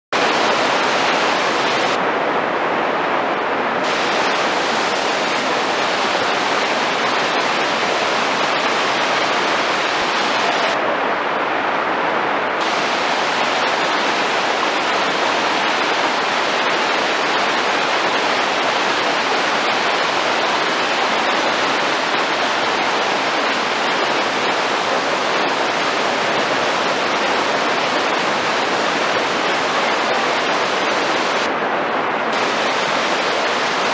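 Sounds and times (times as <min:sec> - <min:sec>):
river rapids rushing: 0:00.2 - 0:33.9.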